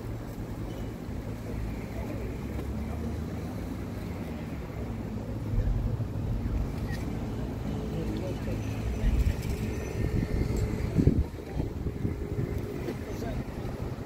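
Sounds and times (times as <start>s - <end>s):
low steady outdoor rumbling: 0.0s - 14.0s.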